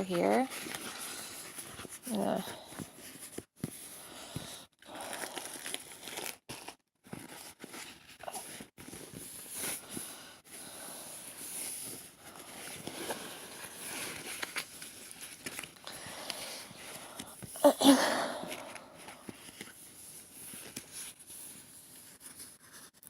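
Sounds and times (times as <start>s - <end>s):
plastic and paper crinkling: 0.0s - 23.0s.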